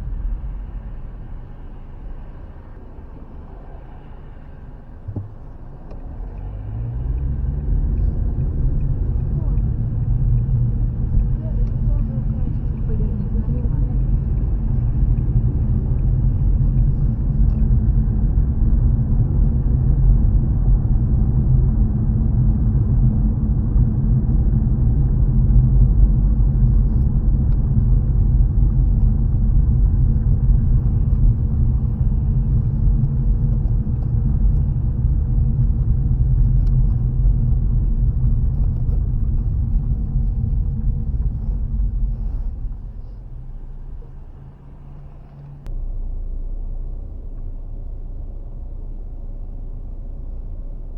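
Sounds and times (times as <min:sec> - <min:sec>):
car driving on wet road: 0:00.0 - 0:50.8.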